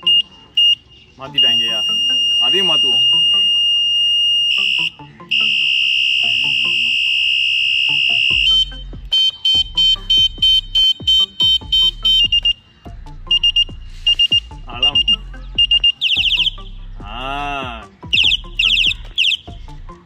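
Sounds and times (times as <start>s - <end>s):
electronic bicycle horn beeping: 0.0s - 12.7s, 13.3s - 16.8s, 18.1s - 19.6s.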